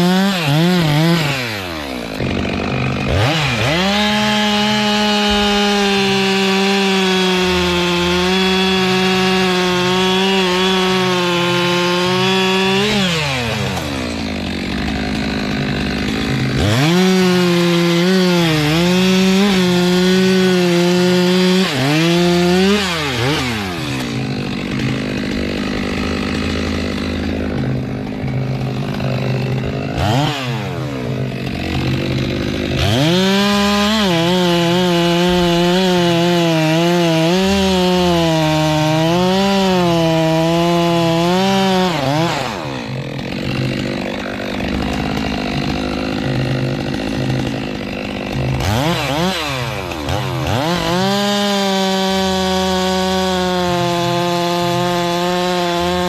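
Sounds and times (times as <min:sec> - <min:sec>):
chainsaw cutting wood: 0:00.0 - 0:56.0
chainsaw idling and revving: 0:00.0 - 0:56.0.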